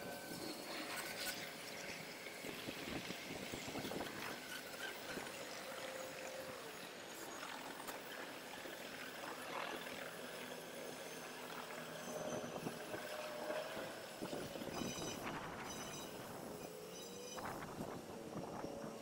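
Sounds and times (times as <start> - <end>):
faint electric winch whine: 0.0 - 19.0.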